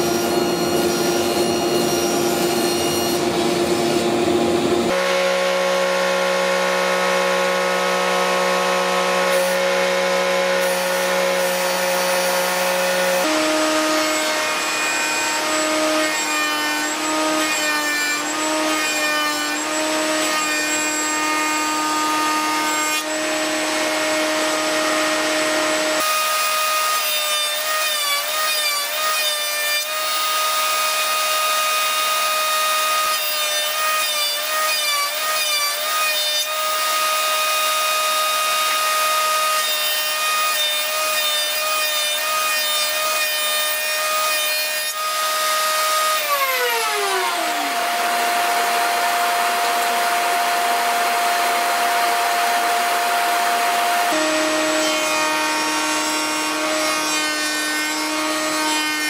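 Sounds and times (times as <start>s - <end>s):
table saw cutting board: 0.0s - 59.0s.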